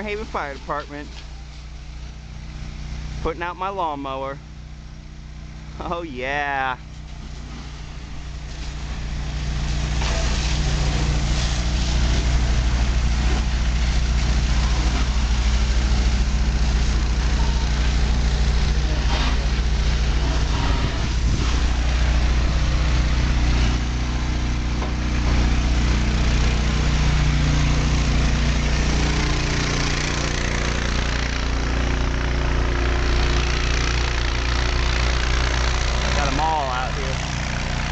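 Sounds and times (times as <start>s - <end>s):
truck engine droning: 0.0s - 37.9s.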